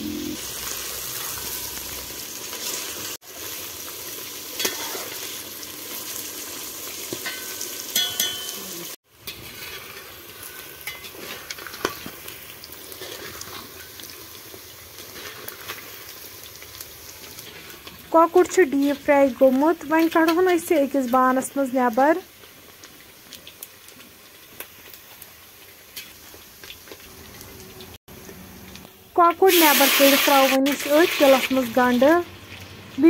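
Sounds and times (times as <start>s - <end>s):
chicken deep-frying in hot oil: 0.1s - 33.0s.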